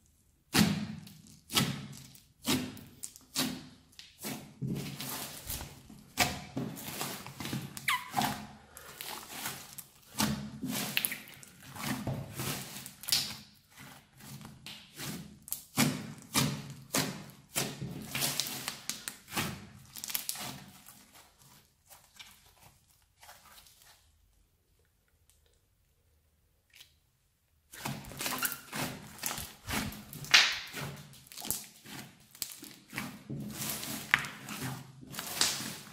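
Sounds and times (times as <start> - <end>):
slime squelching and popping: 0.5 - 24.1, 27.7 - 35.9.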